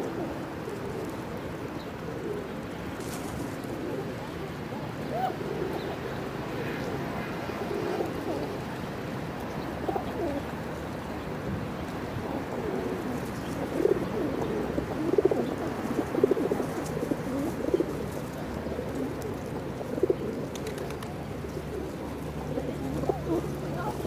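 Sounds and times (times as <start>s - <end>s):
pigeons cooing: 0.0s - 11.2s, 11.8s - 24.0s.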